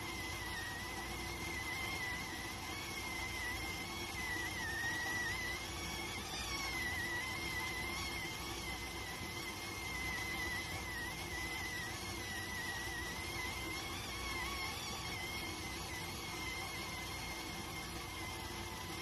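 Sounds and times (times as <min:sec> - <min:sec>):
rice cooker steam whistle: 0:00.0 - 0:19.0.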